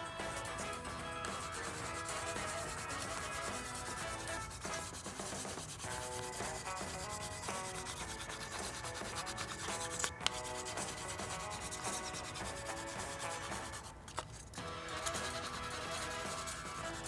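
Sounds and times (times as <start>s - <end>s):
scribbling on a paper cup: 0.0s - 17.0s
soft background music: 0.0s - 17.0s.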